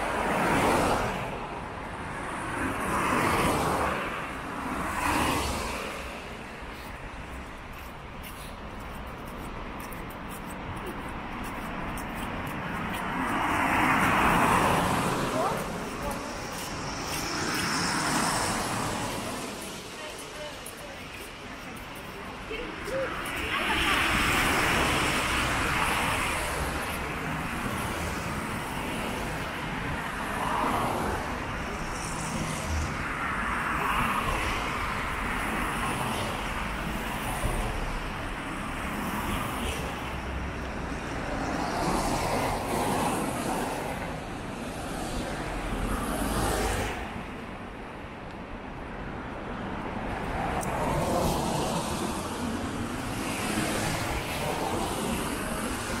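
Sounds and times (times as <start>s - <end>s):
cars passing on wet road: 0.0s - 56.0s.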